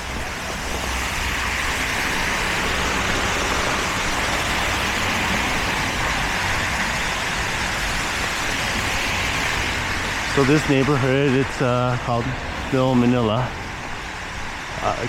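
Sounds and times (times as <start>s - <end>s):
low traffic rumble: 0.0s - 15.0s
road traffic tyre noise: 0.0s - 15.0s.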